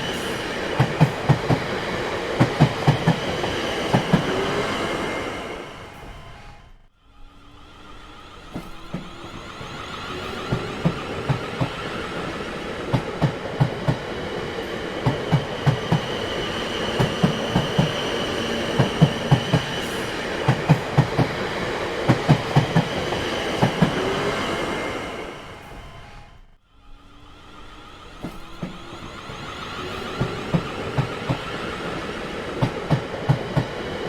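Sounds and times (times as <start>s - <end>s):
train wheels clacking: 0.0s - 6.6s, 8.3s - 26.4s, 28.0s - 34.0s
train rumble: 0.0s - 34.0s.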